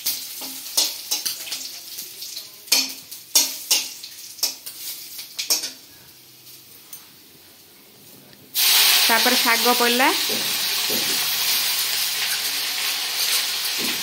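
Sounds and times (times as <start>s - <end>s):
spices sizzling in hot oil: 0.0s - 7.2s, 8.5s - 14.0s.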